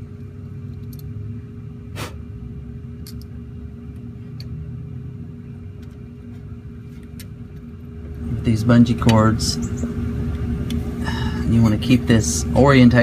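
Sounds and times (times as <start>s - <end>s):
faint steady hum: 0.0s - 13.0s
steady low rumble: 0.0s - 13.0s.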